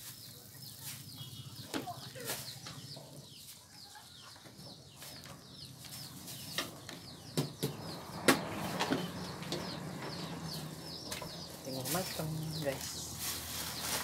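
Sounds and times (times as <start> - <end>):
birds chirping: 0.0 - 14.0
chickens clucking: 0.1 - 14.0.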